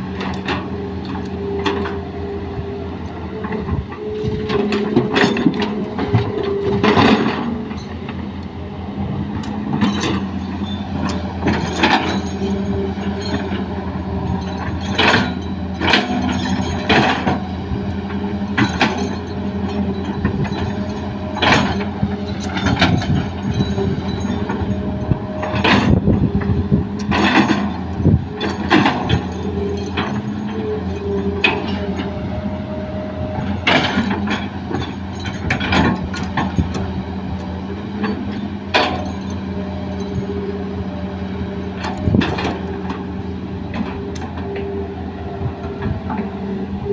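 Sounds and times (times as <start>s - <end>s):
excavator engine running: 0.0s - 46.9s
sharp clanks and knocks: 3.3s - 8.2s, 9.3s - 32.2s, 33.4s - 40.4s, 41.7s - 44.8s.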